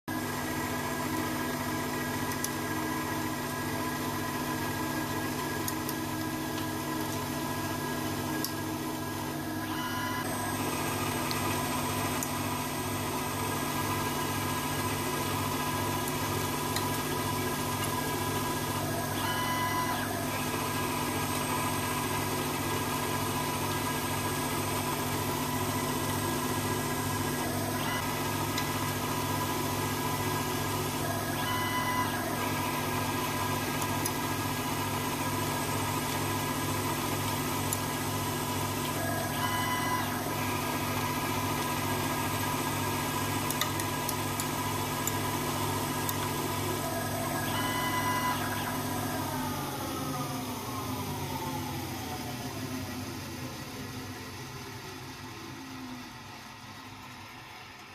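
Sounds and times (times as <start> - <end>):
lathe humming and whining: 0.1 - 57.9.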